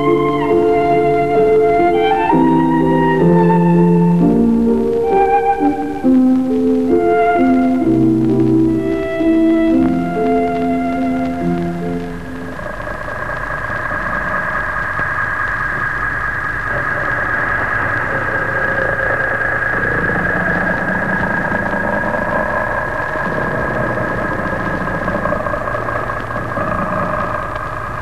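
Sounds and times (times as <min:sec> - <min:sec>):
low rumble: 0:00.0 - 0:28.0
sustained high hum: 0:00.0 - 0:28.0.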